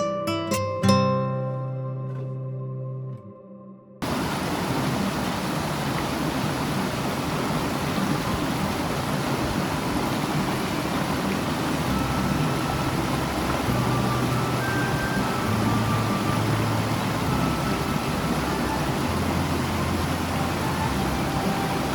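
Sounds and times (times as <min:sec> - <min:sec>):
stream water rushing: 0:04.0 - 0:21.9.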